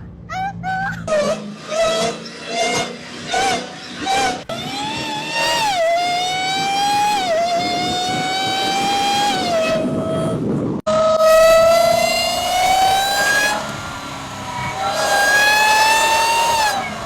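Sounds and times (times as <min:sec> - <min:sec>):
car engine accelerating hard: 0:01.1 - 0:17.0
supercharger whine: 0:01.1 - 0:17.0.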